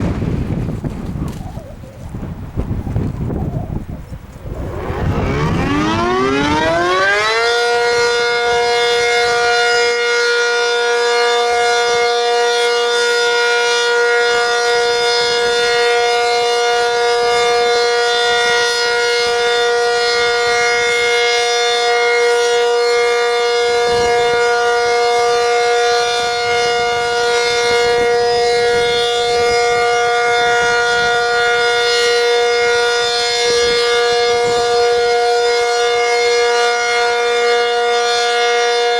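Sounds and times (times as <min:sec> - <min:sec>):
tornado siren winding up: 0:02.9 - 0:38.9.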